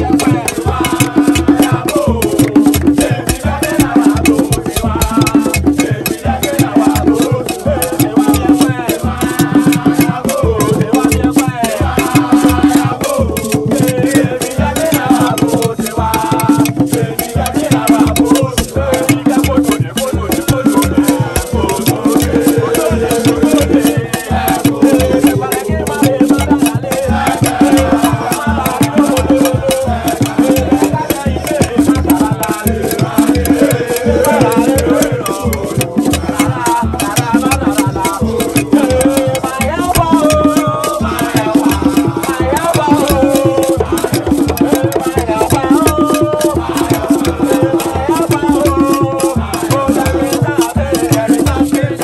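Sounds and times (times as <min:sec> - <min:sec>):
men chanting together: 0:00.0 - 0:52.0
upbeat african popular music: 0:00.0 - 0:52.0
wooden percussion beat: 0:00.0 - 0:52.0.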